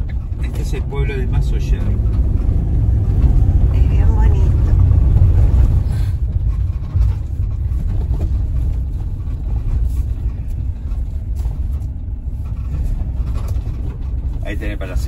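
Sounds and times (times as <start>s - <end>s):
vehicle driving on dirt road: 0.0s - 15.0s
vehicle jolt: 0.0s - 15.0s.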